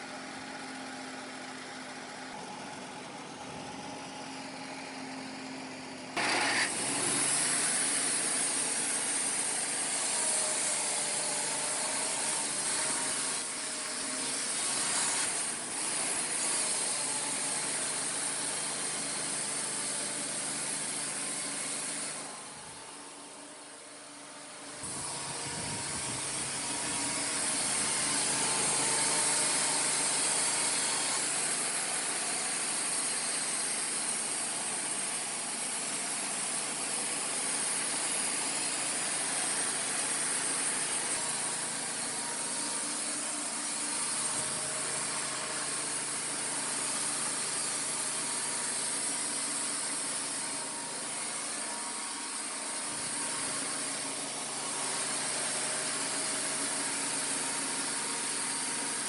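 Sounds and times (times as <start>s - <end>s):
band sawmill cutting wood: 0.0s - 59.0s.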